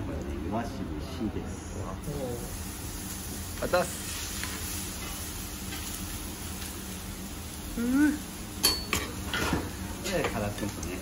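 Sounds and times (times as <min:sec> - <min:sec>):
food sizzling on a griddle: 0:02.0 - 0:11.0.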